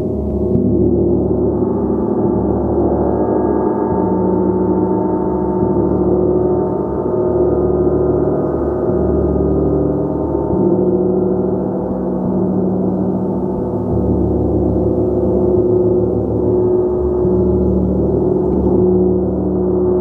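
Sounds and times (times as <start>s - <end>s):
gong sustained tones: 0.0s - 20.0s.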